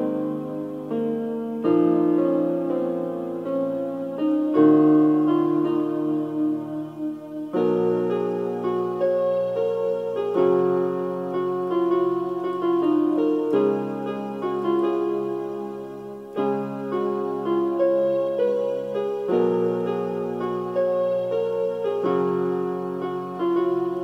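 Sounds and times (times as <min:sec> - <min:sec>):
slow solo piano music: 0:00.0 - 0:24.0.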